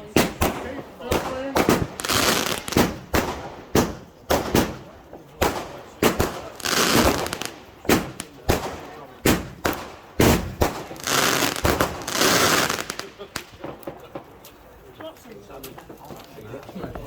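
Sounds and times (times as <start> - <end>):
firework bangs: 0.0 - 14.4
firework crackling hiss: 0.0 - 14.4.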